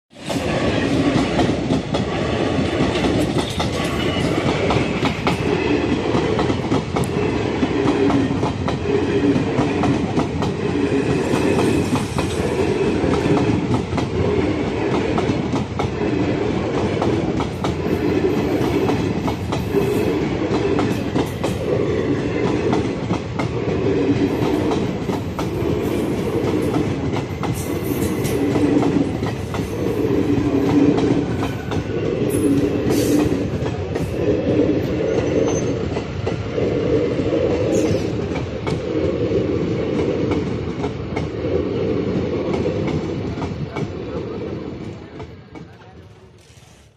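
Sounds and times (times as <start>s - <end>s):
train coaches rumbling past: 0.1s - 46.9s.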